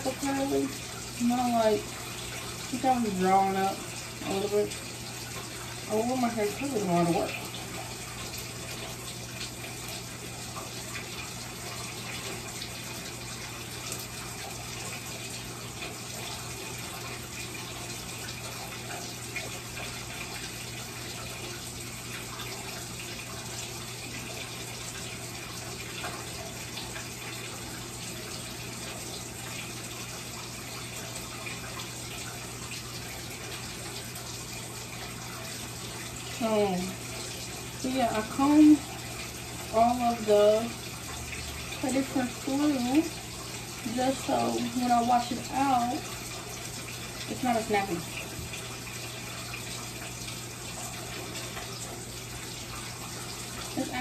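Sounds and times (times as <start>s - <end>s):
bathtub tap running: 0.0s - 54.0s.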